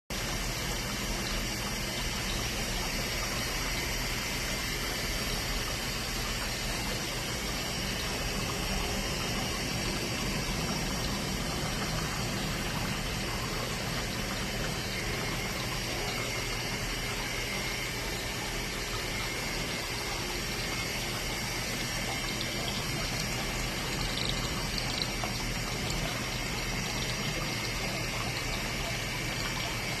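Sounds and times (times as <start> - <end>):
low pump hum: 0.1 - 30.0.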